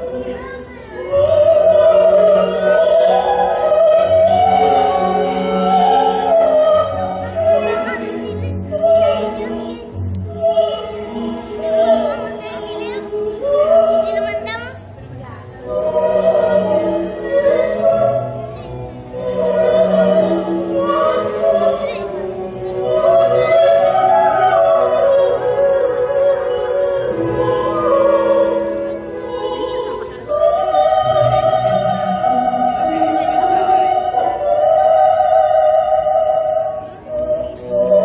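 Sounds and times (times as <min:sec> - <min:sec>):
choir holding sung notes: 0:01.0 - 0:14.4, 0:15.6 - 0:38.0.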